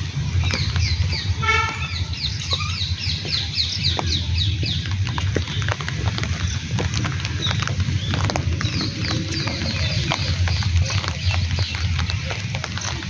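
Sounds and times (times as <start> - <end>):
bird chirping: 0.0 - 13.0
rain ticks on microphone: 0.0 - 13.0
wind on microphone: 0.0 - 13.0.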